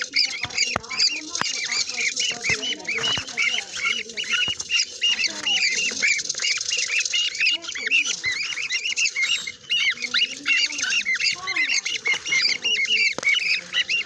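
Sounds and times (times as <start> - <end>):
small parrots chattering: 0.0 - 14.0.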